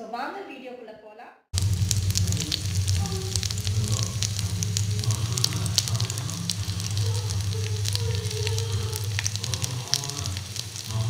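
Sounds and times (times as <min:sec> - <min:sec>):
kebabs sizzling on a griddle: 0:01.6 - 0:11.0
low steady hum: 0:01.6 - 0:11.0.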